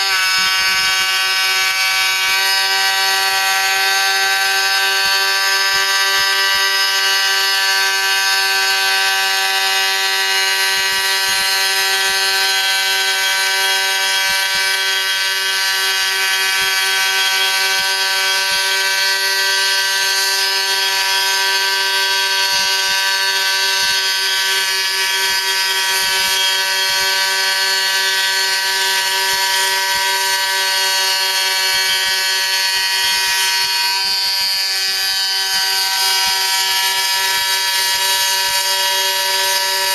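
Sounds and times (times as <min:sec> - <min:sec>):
mill spindle motor whining: 0:00.0 - 0:39.9.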